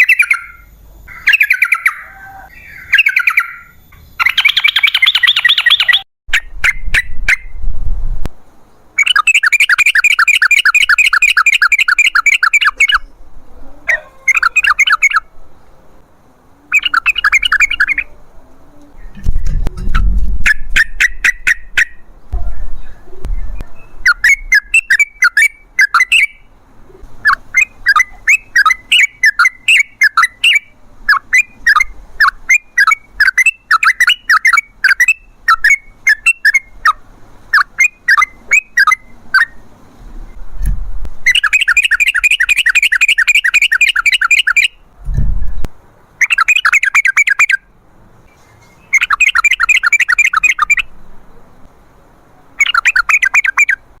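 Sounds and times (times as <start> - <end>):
bird singing trills: 0.0 - 7.5, 8.7 - 15.8, 16.4 - 19.2, 20.5 - 37.0, 37.6 - 39.6, 41.3 - 44.9, 46.2 - 47.7, 48.3 - 51.6, 52.6 - 53.9.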